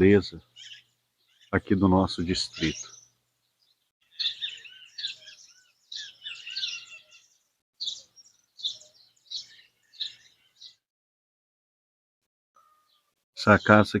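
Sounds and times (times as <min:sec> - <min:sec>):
songbirds singing: 0:00.0 - 0:10.9, 0:12.6 - 0:14.0.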